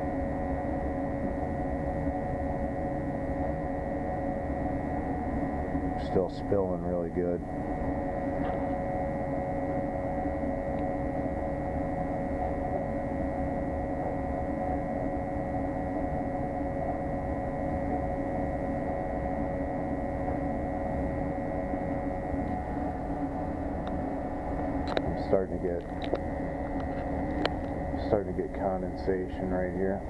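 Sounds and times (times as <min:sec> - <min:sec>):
gas burner hum: 0:00.0 - 0:30.0.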